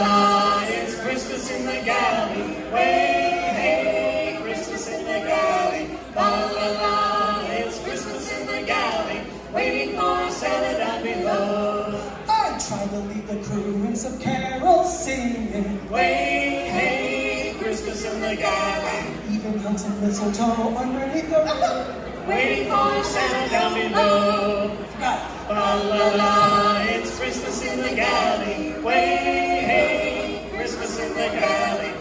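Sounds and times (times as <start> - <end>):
choir singing a cappella: 0.0 - 12.8, 13.7 - 19.6, 22.0 - 32.0.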